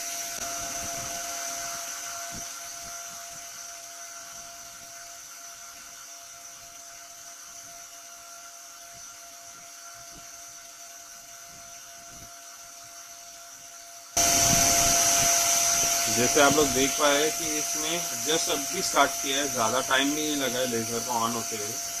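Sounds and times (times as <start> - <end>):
electric fan whirring: 0.0 - 22.0.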